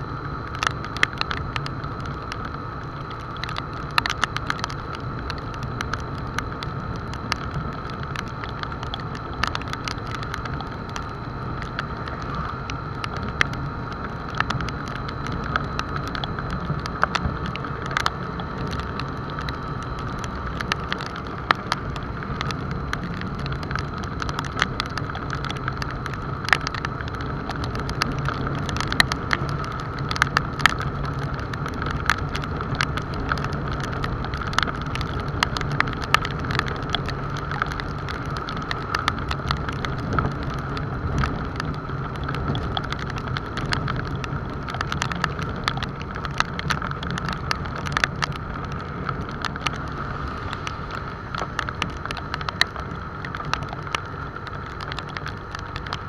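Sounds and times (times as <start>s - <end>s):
constant rushing noise: 0.0s - 56.0s
raindrops ticking on camera: 0.0s - 56.0s.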